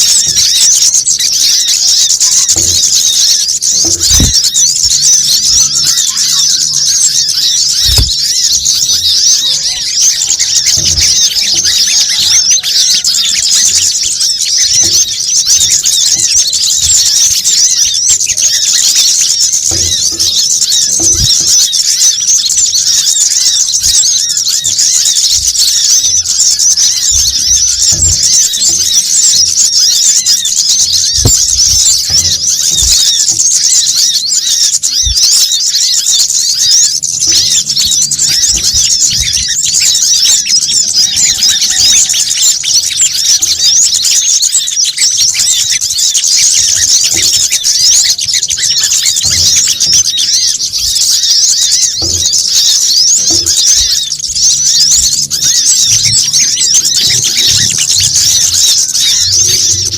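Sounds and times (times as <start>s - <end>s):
sunbirds chirping: 0.0s - 59.9s.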